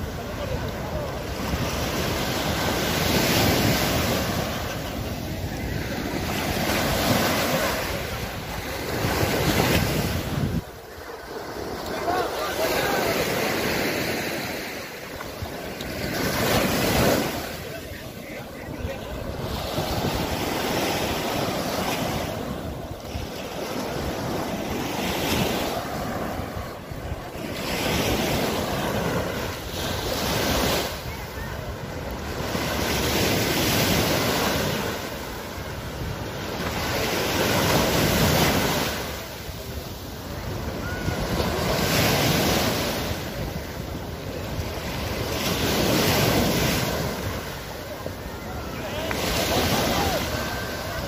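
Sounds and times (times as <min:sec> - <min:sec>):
small waves washing on sand: 0:00.0 - 0:51.0.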